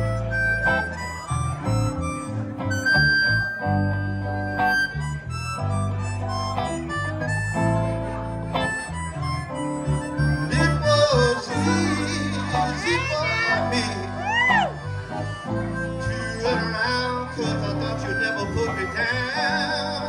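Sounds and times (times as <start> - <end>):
amplified blues harmonica: 0.0 - 20.0
electric bass line: 0.0 - 20.0
electric guitars: 0.0 - 20.0.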